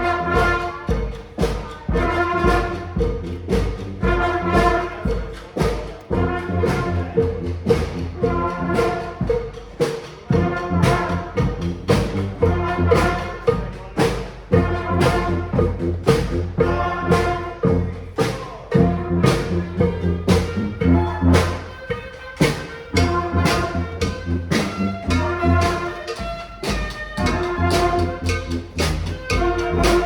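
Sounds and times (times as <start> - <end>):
brass band playing: 0.0 - 30.0
drum hits: 0.0 - 30.0.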